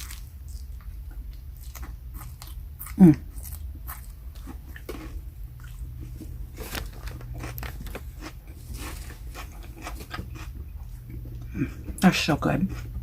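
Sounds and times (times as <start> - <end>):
close chewing with mouth clicks: 0.0 - 12.1
steady low hum: 0.0 - 13.0.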